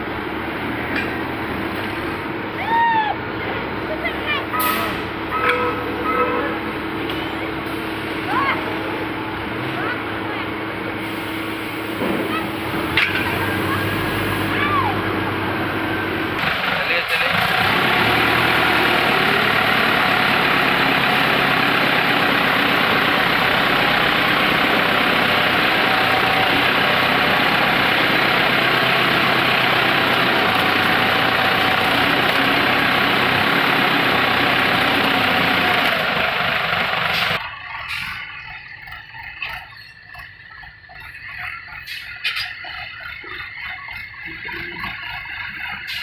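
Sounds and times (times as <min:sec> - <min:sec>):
forklift engine running: 0:00.0 - 0:46.0.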